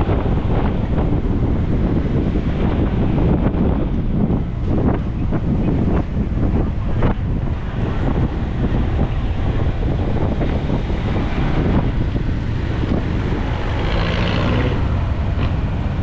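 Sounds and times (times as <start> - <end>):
motorbike wind and road noise: 0.0 - 16.0.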